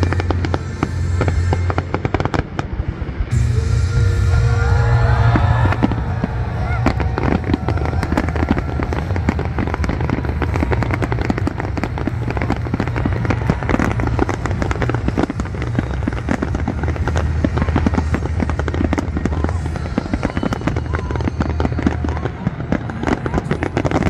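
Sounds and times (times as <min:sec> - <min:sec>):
fireworks bangs and crackling: 0:00.0 - 0:24.0
steady low rumble: 0:00.0 - 0:24.0.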